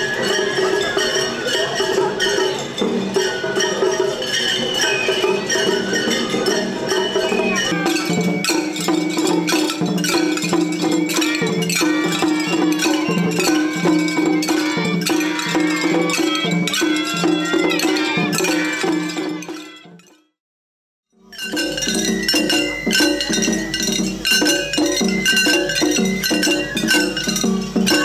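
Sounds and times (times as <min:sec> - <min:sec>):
taiko drums: 0:00.0 - 0:20.1, 0:21.3 - 0:28.0
flutes playing high melody: 0:03.2 - 0:19.8, 0:22.0 - 0:28.0.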